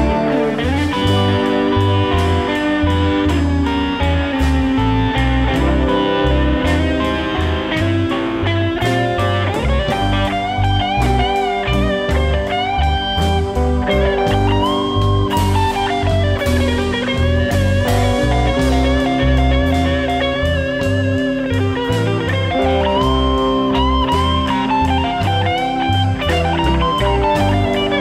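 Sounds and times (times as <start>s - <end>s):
bass line: 0.0s - 28.0s
drums: 0.0s - 28.0s
electric guitar lead: 0.0s - 28.0s.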